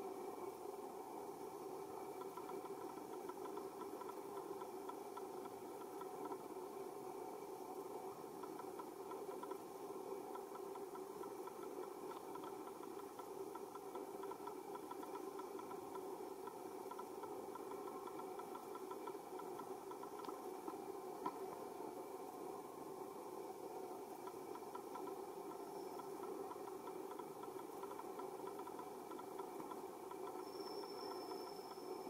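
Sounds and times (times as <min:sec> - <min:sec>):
steady droning hum: 0:00.0 - 0:32.0.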